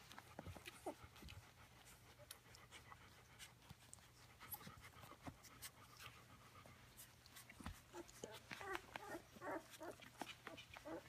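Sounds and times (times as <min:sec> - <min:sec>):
dog panting: 0:00.0 - 0:11.0
puppies suckling wet clicks: 0:00.0 - 0:11.0.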